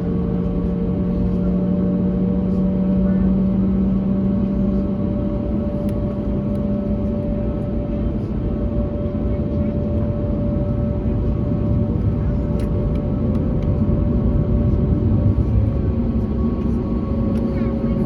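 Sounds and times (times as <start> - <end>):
airplane cabin engine drone: 0.0 - 18.0.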